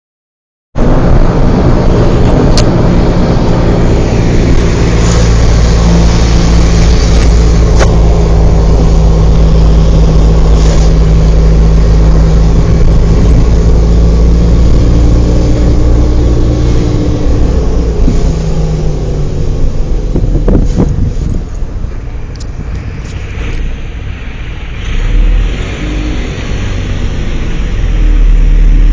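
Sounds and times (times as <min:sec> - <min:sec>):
car engine idling: 0:00.8 - 0:28.9.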